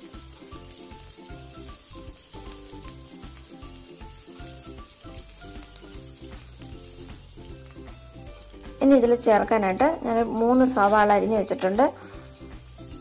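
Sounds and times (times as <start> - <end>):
oil sizzling in a pan: 0.0 - 13.0
soft background music: 0.0 - 13.0.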